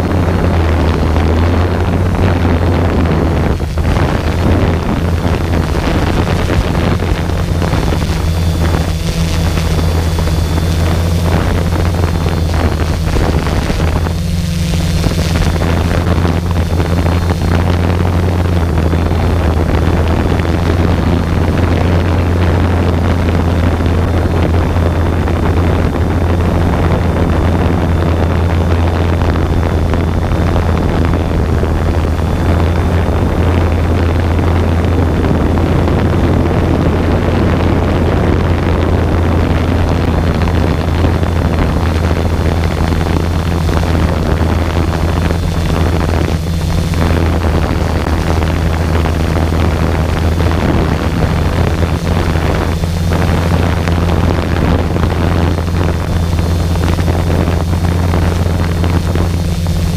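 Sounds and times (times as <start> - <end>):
drone motors and propellers: 0.0 - 59.9
high motor whine: 0.0 - 59.9
wind on microphone: 0.0 - 59.9.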